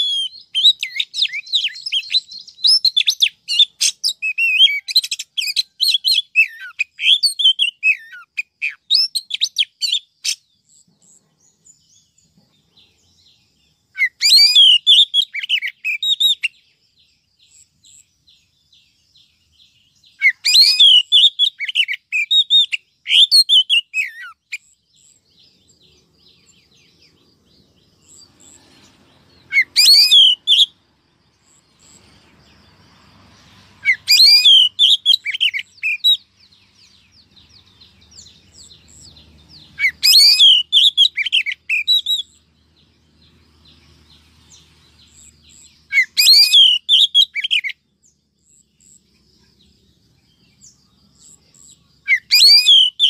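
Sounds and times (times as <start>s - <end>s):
bird singing whistled notes: 0.0s - 53.0s.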